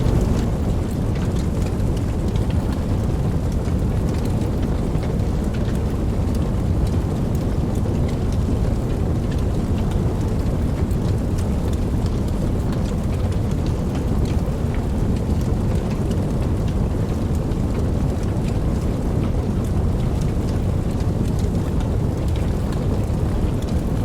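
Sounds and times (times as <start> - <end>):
steady rain with drops ticking: 0.0 - 24.0.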